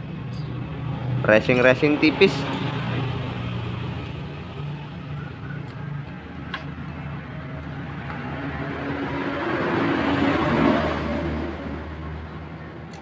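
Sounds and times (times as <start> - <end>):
motor vehicle passing by: 0.0 - 12.9.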